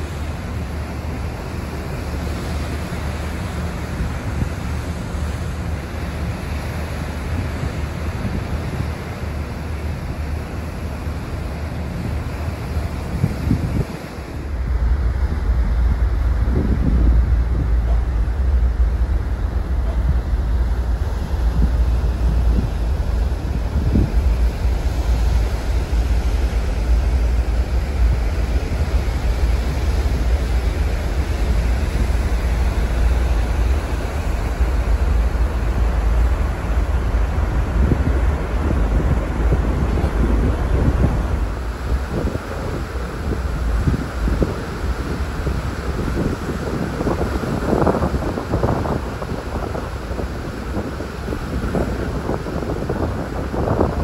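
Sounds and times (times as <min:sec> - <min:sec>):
water rushing along ship hull: 0:00.0 - 0:54.0
wind rumble on microphone: 0:00.0 - 0:54.0.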